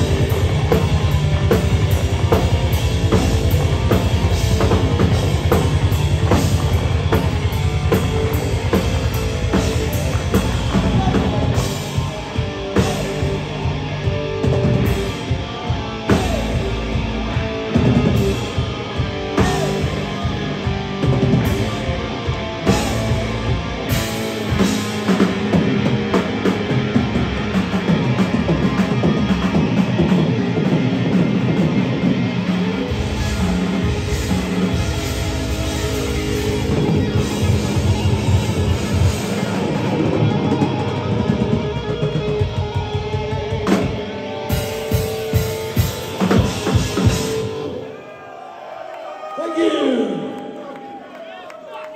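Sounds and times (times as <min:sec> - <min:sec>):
drum kit: 0:00.0 - 0:47.8
electric guitar: 0:00.0 - 0:48.0
rock band playing live: 0:00.0 - 0:48.0.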